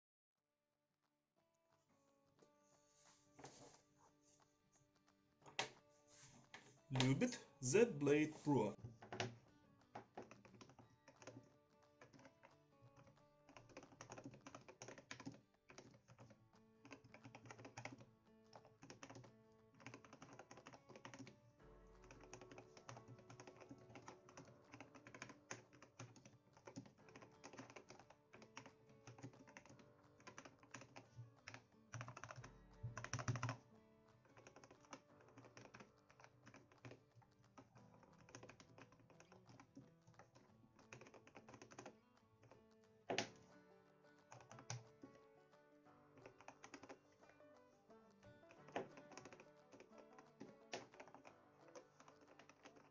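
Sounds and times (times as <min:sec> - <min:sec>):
quiet rapid keyboard typing: 0:03.1 - 0:52.9.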